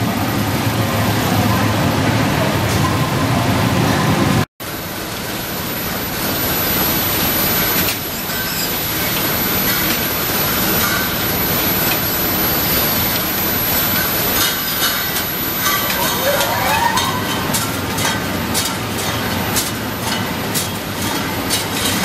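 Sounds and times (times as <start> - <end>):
packing machinery running: 0.0 - 22.0.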